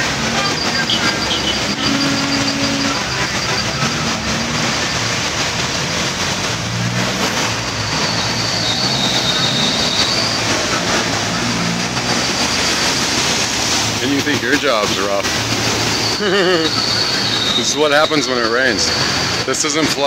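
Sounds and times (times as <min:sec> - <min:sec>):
rushing water and tyre spray: 0:00.0 - 0:20.0
vehicle engines running: 0:00.0 - 0:20.0.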